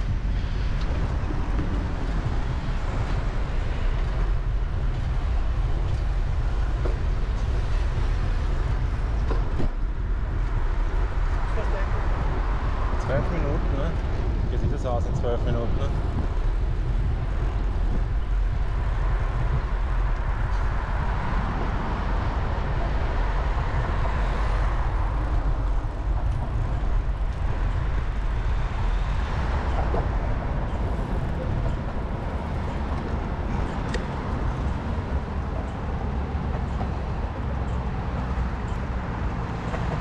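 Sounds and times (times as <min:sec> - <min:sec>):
city traffic rumble: 0:00.0 - 0:40.0.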